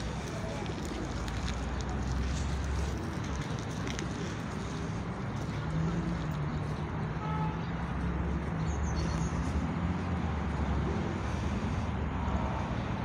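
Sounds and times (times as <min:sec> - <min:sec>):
distant road traffic rumble: 0:00.0 - 0:13.0.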